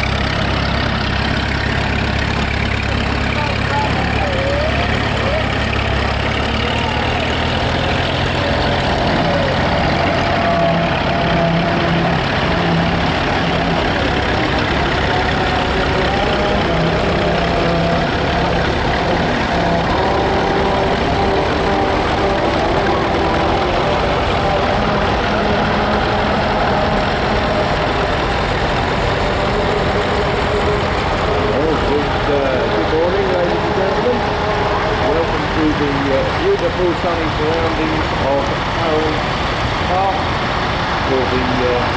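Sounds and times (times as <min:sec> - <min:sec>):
tractor engines idling: 0:00.0 - 0:41.9.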